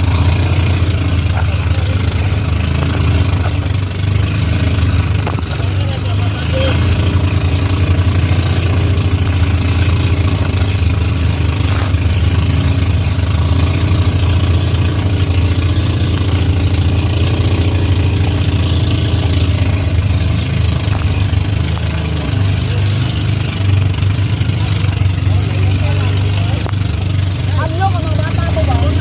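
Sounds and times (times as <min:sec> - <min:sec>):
boat engine humming: 0:00.0 - 0:29.0
water rushing against hull: 0:00.0 - 0:29.0
wind: 0:00.0 - 0:29.0.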